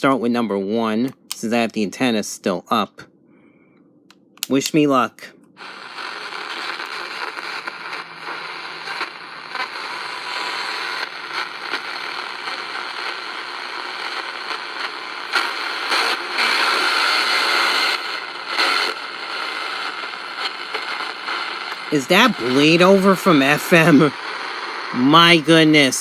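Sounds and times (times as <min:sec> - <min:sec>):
crackles and pops: 0:04.1 - 0:26.0
radio static and hiss: 0:04.5 - 0:26.0.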